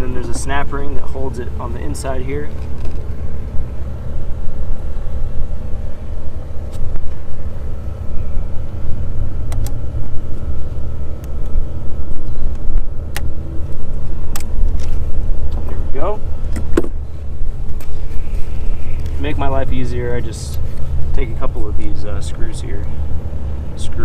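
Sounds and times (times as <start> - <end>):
continuous low rumble: 0.0 - 24.0.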